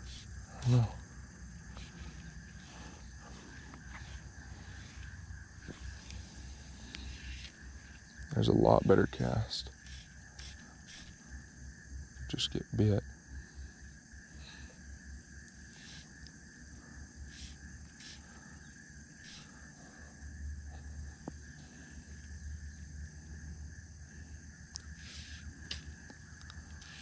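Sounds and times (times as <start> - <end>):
insects chorus ringing: 0.0 - 27.0.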